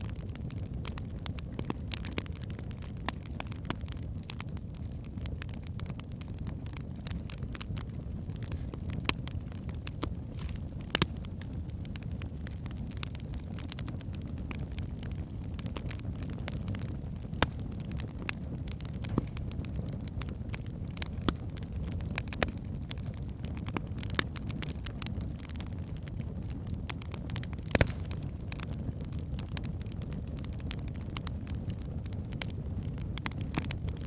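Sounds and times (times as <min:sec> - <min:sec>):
fire flames rumbling: 0:00.0 - 0:34.0
logs crackling and popping: 0:00.0 - 0:34.0.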